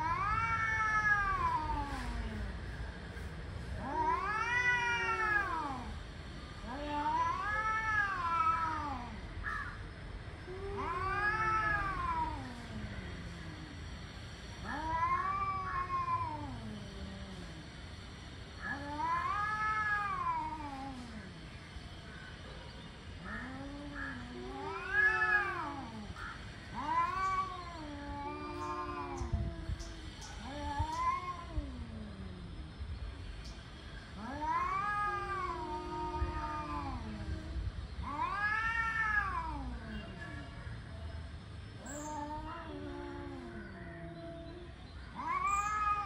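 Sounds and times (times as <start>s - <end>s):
cats caterwauling: 0.0s - 2.6s, 3.7s - 40.9s, 41.8s - 46.0s.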